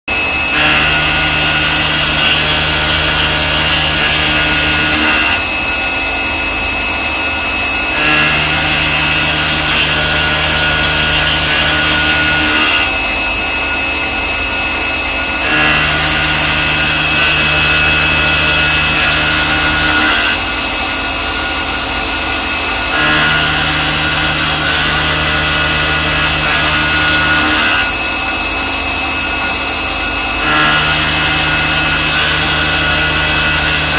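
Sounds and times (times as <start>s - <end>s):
milling machine hum and cutting: 0.1s - 33.9s.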